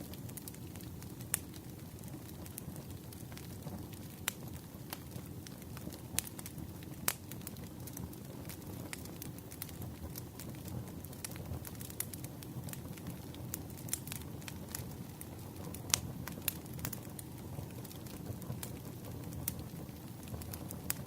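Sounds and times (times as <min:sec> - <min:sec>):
campfire flame rumble: 0:00.0 - 0:21.0
fire crackling and popping: 0:00.0 - 0:21.0.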